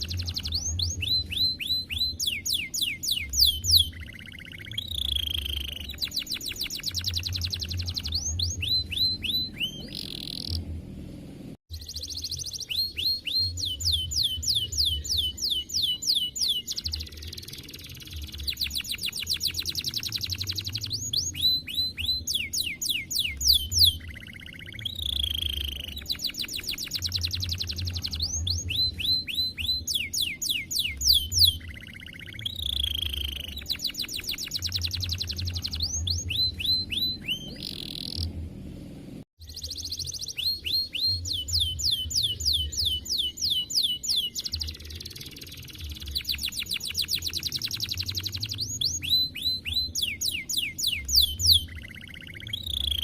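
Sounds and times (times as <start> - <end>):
canary singing trills: 0.0 - 10.7, 11.7 - 38.3, 39.4 - 53.0.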